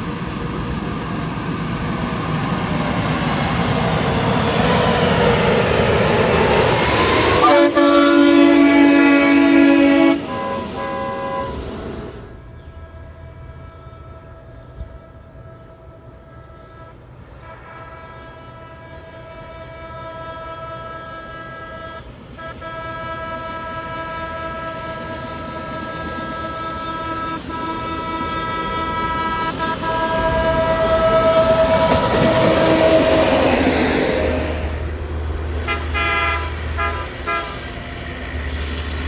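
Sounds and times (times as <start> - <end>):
railway air horn blasts: 4.4 - 35.0, 35.6 - 38.0.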